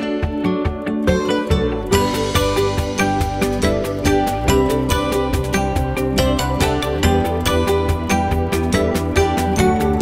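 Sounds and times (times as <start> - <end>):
background music with quick beat: 0.0 - 10.0.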